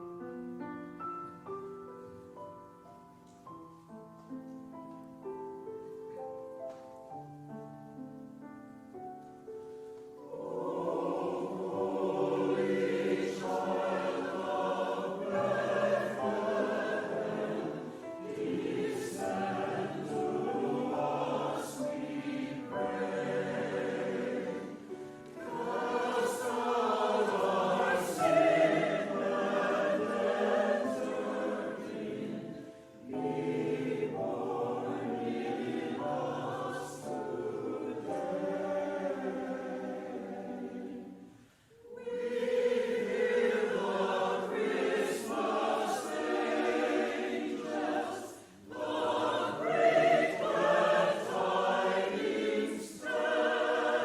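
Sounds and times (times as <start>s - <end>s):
church choir singing: 8.2s - 54.0s.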